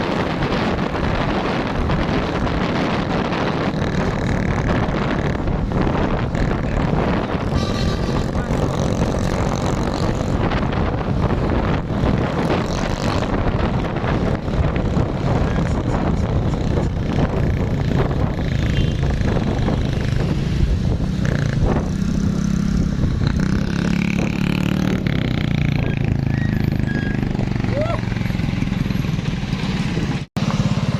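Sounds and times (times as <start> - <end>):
road and wind noise: 0.0 - 30.9.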